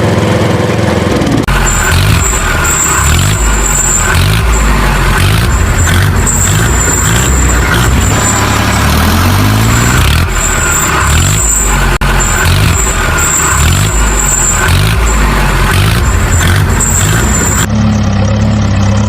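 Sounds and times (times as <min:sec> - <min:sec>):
vehicle engine revving: 0:00.0 - 0:19.0
thin high whine: 0:01.5 - 0:17.7.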